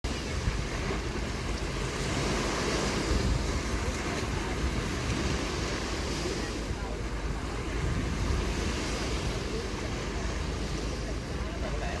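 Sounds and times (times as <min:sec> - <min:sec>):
ocean waves on beach: 0:00.0 - 0:12.0
wind buffeting microphone: 0:00.0 - 0:12.0.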